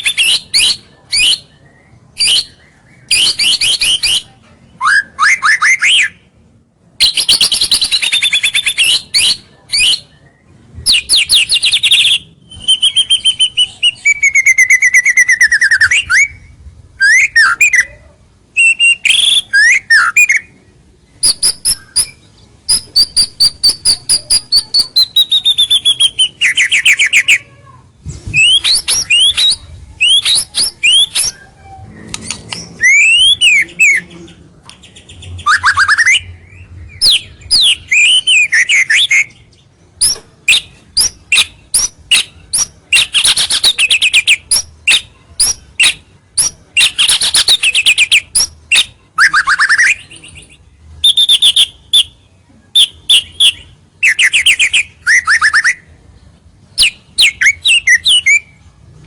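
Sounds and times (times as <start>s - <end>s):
bird singing whistled song: 0.0s - 6.3s, 7.0s - 20.6s, 21.2s - 27.4s, 28.3s - 34.1s, 34.8s - 55.9s, 56.8s - 58.6s.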